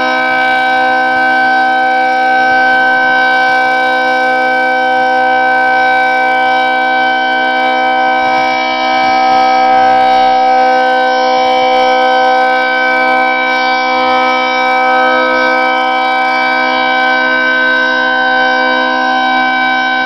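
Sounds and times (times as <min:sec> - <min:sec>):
dual-tone warning siren: 0:00.0 - 0:20.0.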